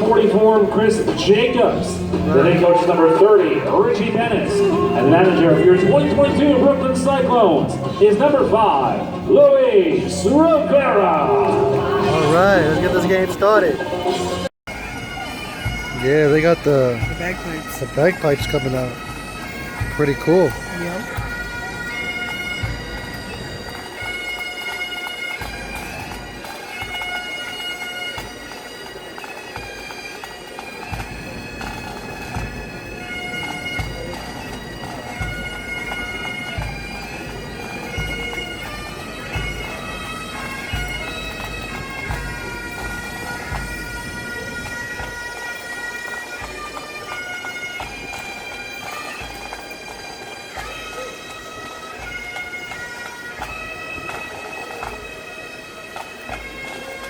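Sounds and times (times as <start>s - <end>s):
bagpipes playing a tune: 0.0s - 57.0s.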